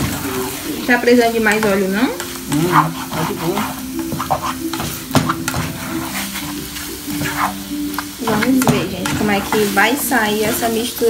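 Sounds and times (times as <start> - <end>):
food sizzling in oil: 0.0 - 11.0
spatula scraping a pan: 1.4 - 11.0.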